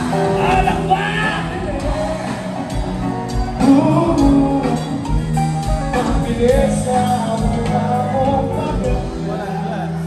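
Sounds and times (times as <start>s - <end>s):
electric guitars: 0.0s - 10.0s
person singing: 0.0s - 10.0s.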